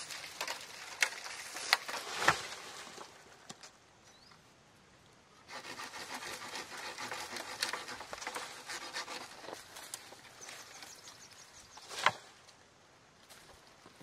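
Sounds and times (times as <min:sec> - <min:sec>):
rustling and scraping of leaves: 0:00.0 - 0:03.8, 0:05.5 - 0:14.0.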